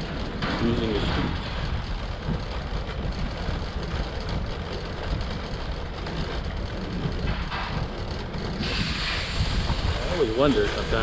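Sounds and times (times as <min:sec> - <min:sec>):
shopping cart rattling over asphalt: 0:00.0 - 0:11.0.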